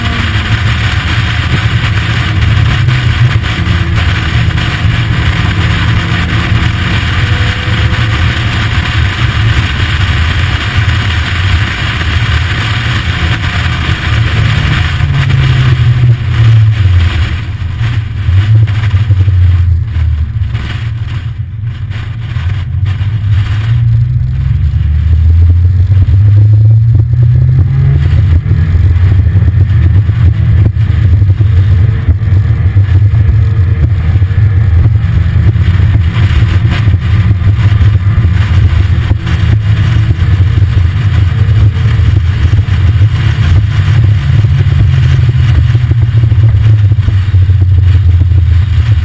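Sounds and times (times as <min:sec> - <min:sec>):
sports car engine rumbling: 0:00.0 - 0:49.0.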